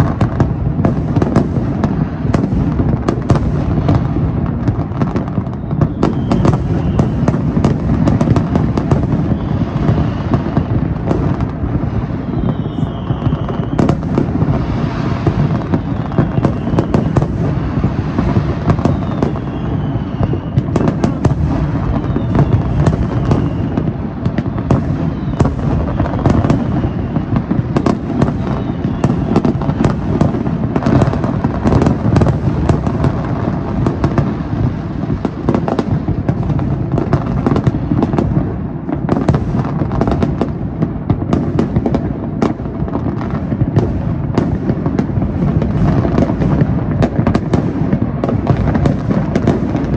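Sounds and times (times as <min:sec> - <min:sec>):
fireworks banging and crackling: 0:00.0 - 0:49.9
fireworks whistles falling: 0:00.0 - 0:49.9.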